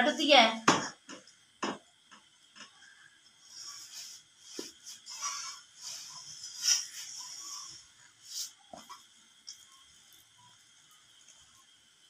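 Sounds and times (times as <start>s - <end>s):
flatbread sizzling on griddle: 0.7s - 12.0s.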